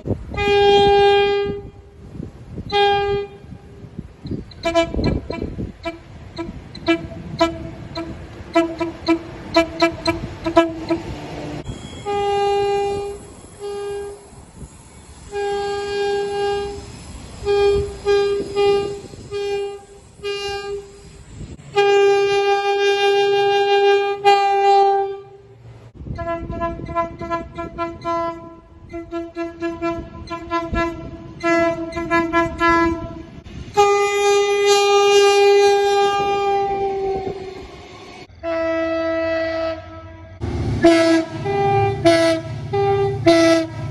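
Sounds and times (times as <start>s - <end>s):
train horn blasts: 0.0s - 21.1s, 21.7s - 43.9s.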